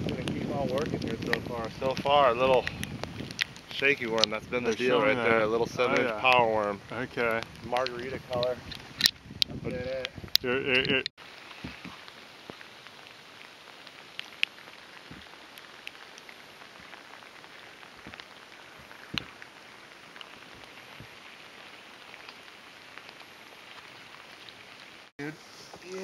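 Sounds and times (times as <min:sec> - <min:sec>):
rain falling on lake water: 0:00.0 - 0:26.0.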